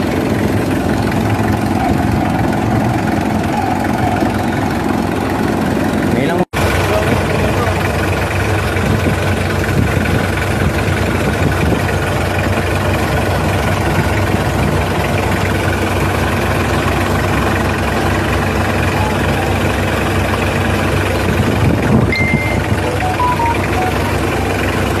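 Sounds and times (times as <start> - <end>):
car engine idling roughly: 0.0 - 25.0.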